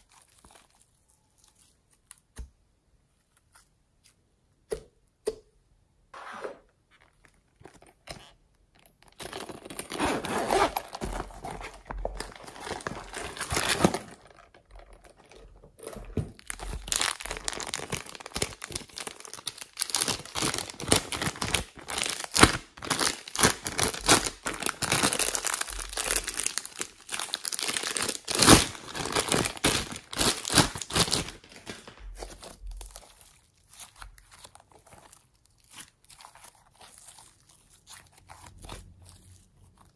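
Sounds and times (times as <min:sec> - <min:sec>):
plastic bag crinkling: 0:07.0 - 0:39.9.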